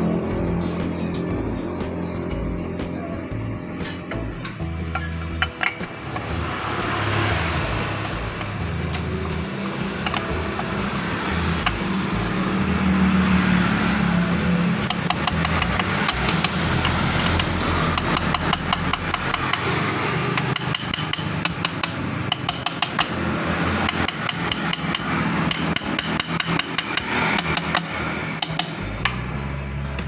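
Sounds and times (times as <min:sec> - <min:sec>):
workshop noise: 0:00.0 - 0:30.0
hammer tapping on metal: 0:03.8 - 0:29.3.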